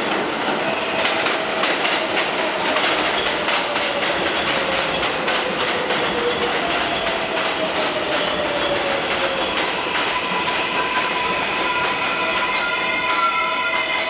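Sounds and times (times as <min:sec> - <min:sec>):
train wheel and track noise: 0:00.0 - 0:14.0.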